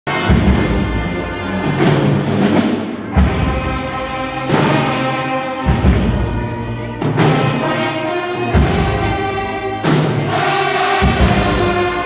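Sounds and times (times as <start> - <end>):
brass band holding loud chords: 0.1 - 12.0.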